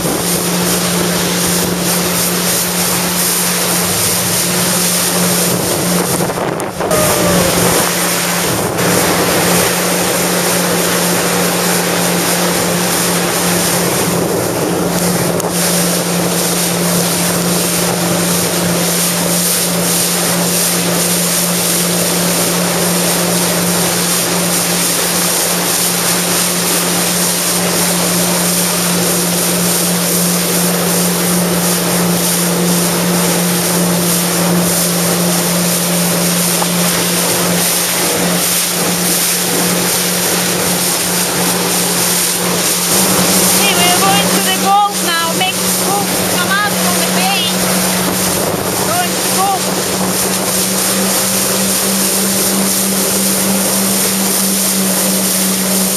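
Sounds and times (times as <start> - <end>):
jet ski engine running: 0.0 - 55.9
water and wind rushing: 0.0 - 55.9.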